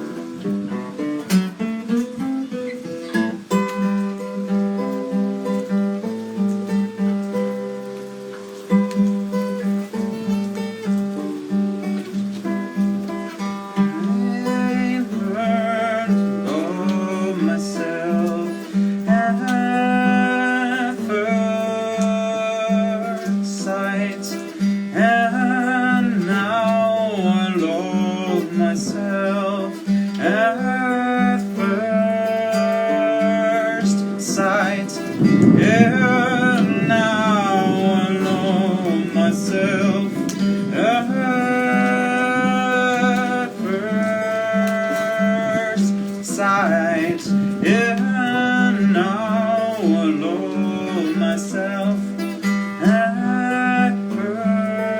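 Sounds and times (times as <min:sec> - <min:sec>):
acoustic guitar solo: 0:00.0 - 0:54.9.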